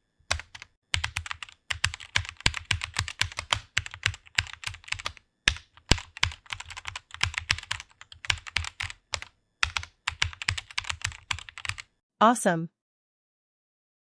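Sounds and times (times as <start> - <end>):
keyboard typing: 0.3 - 11.9.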